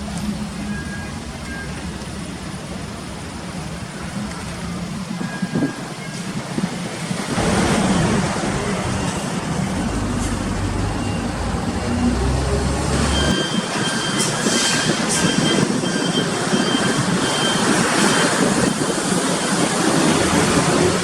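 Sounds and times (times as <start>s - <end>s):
steady traffic noise: 0.0s - 21.0s.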